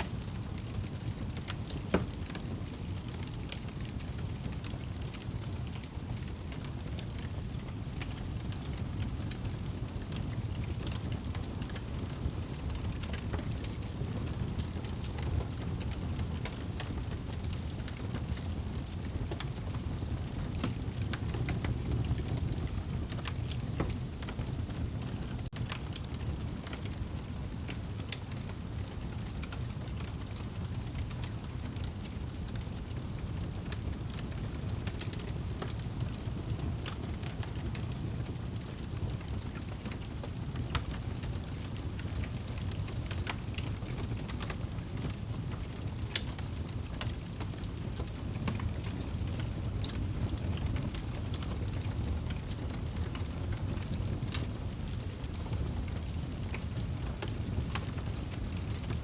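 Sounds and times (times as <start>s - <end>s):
fire rumbling in fireplace: 0.0s - 59.0s
fire crackling and popping: 0.1s - 59.0s.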